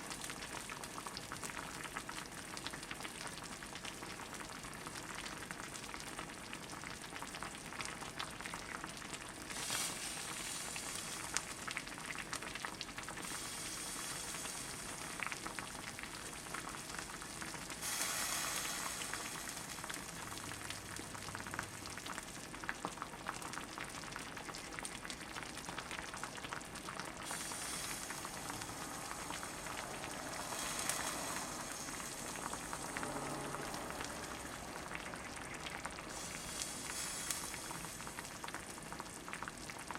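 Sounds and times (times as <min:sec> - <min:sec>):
stew sizzling and bubbling in pot: 0:00.0 - 0:39.9.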